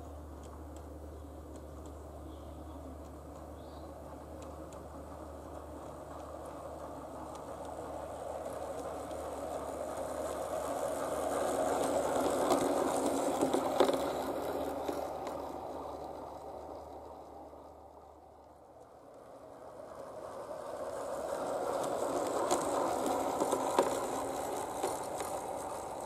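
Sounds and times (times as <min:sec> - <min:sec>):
model streetcar motor and wheels: 0:00.0 - 0:26.0
sharp clicks on track: 0:00.2 - 0:02.2, 0:02.8 - 0:17.7, 0:20.3 - 0:26.0.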